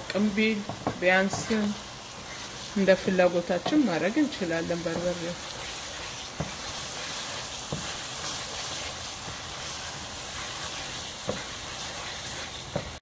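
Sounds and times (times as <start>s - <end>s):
sauce sizzling in a pot: 0.0s - 13.0s.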